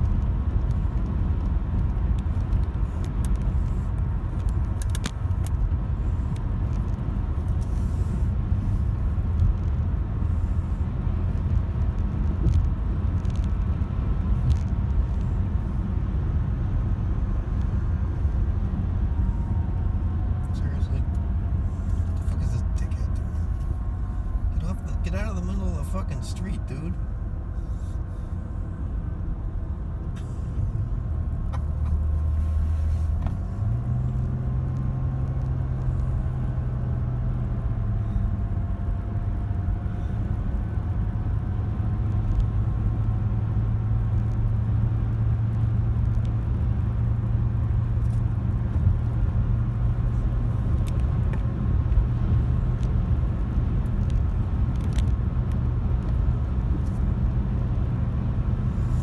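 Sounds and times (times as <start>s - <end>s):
car road and engine drone: 0.0s - 59.0s.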